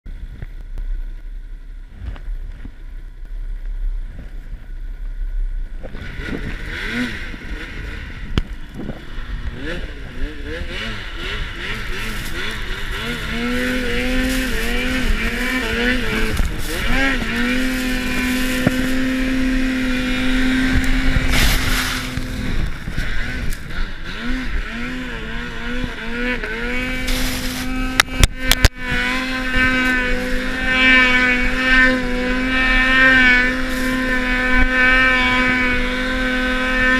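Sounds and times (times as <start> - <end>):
track churning snow: 0.1 - 36.9
snowmobile engine revving: 1.5 - 36.9.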